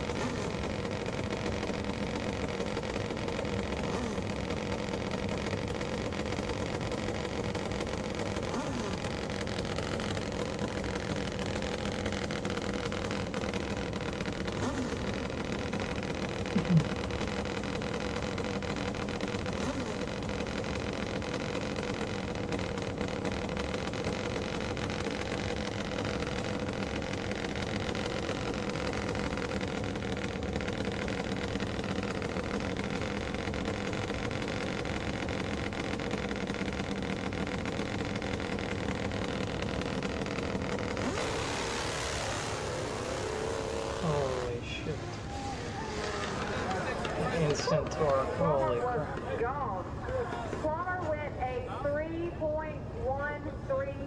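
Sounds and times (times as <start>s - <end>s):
motorcycles idling: 0.0s - 54.0s.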